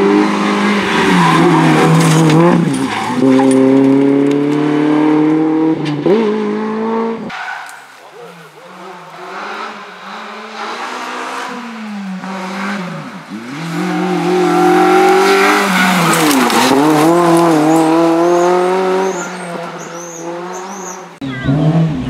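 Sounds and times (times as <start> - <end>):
rally car engine at high revs: 0.0 - 7.3, 8.2 - 22.0.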